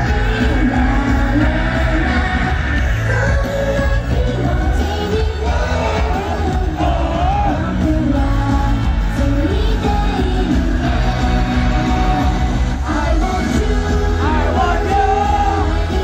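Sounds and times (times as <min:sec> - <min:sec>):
girls singing together: 0:00.0 - 0:16.0
pop backing track with heavy bass: 0:00.0 - 0:16.0.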